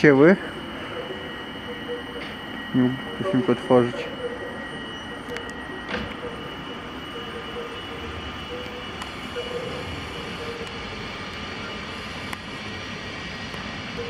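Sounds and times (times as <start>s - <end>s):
faint whine: 0.0s - 14.0s
train humming and hissing: 0.0s - 14.0s.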